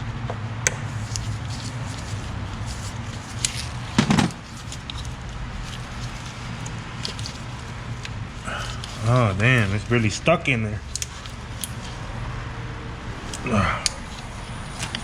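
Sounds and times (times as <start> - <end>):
steady low hum: 0.0 - 15.0
hose fittings clicking: 0.9 - 10.2, 10.8 - 12.0, 13.2 - 15.0.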